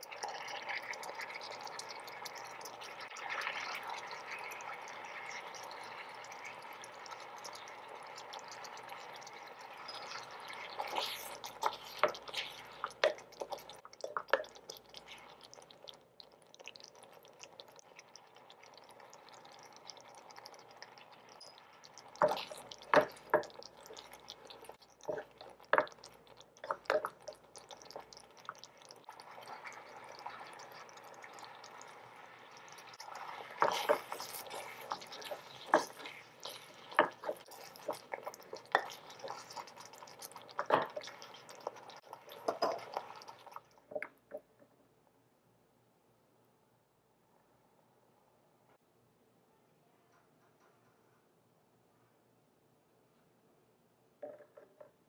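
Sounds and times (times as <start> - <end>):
thick sauce stirred wet sound: 0.0 - 44.1.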